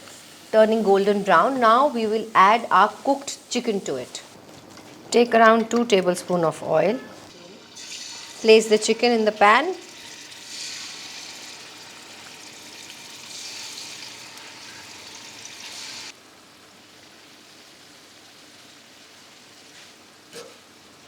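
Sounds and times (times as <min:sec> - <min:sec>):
chicken sizzling in hot oil: 0:00.0 - 0:04.4, 0:07.3 - 0:21.0.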